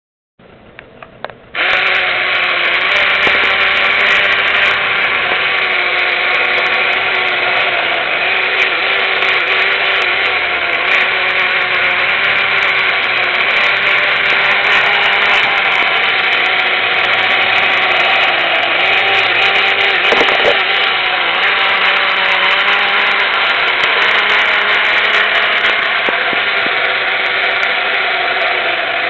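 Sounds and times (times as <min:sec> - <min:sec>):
toy motor whirring: 0:01.6 - 0:29.0.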